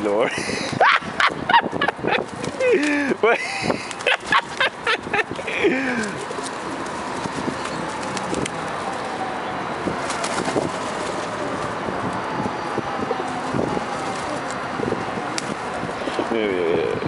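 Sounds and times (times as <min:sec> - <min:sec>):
steady background noise: 0:00.0 - 0:17.0
pigeons cooing: 0:02.0 - 0:15.8.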